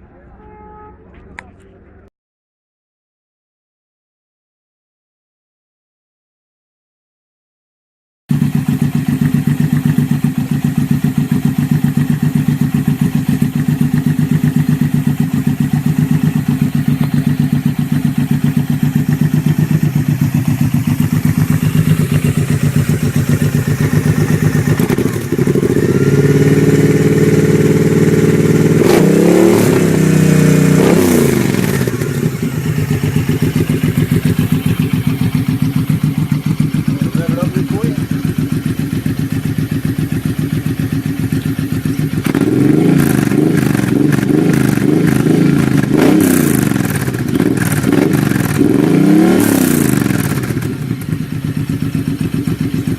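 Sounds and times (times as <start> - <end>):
motorcycle engine idling and revving: 8.3 - 52.9.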